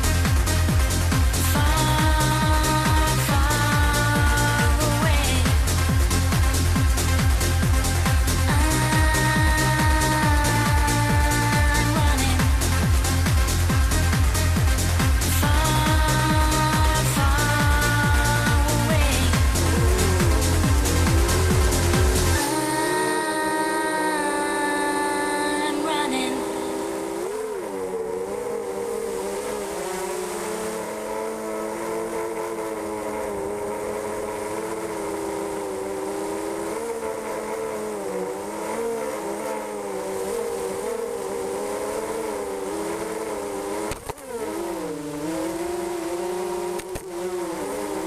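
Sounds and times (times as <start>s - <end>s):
quadcopter motors buzzing whine: 0.0s - 48.0s.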